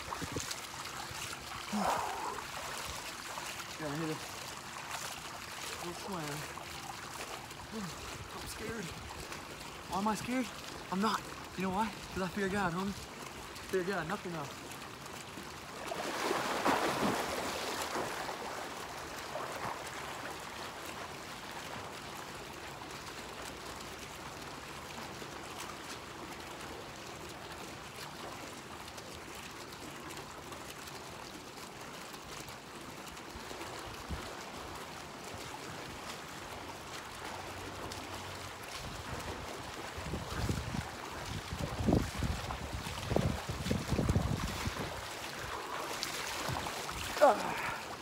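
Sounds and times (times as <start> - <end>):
moving water wash: 0.0 - 48.0
swimmer splashing: 0.0 - 48.0.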